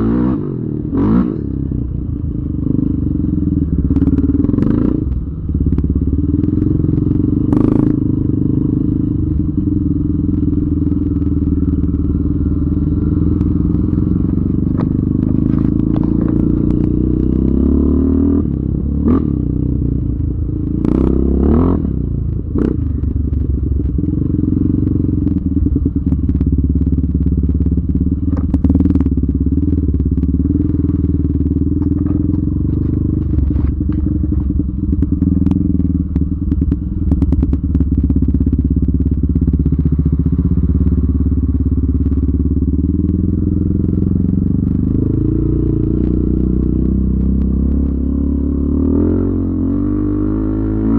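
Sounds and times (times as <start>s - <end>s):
off-road engine running: 0.0s - 50.9s.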